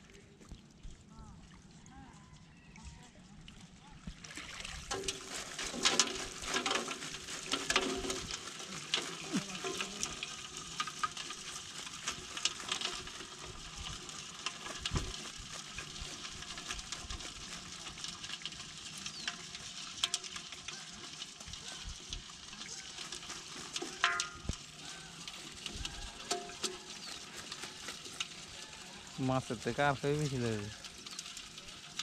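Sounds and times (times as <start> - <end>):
water and fish splashing into basin: 2.7 - 32.0.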